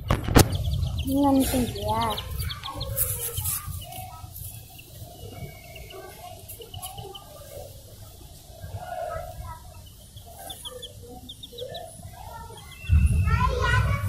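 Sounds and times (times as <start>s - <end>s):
baby chicks peeping: 0.0s - 14.0s.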